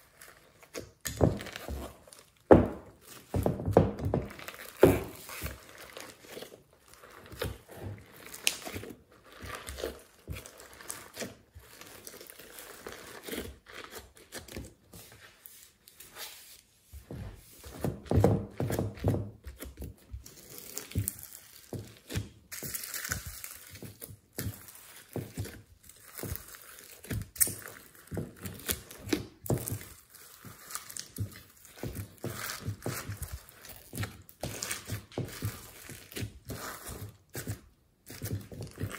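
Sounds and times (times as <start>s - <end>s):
slime squishing and crackling: 0.0s - 16.4s, 17.6s - 38.9s.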